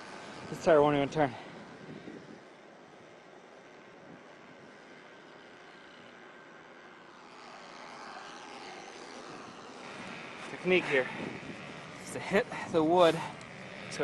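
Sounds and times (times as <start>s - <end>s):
tire spinning in snow: 0.0s - 14.0s.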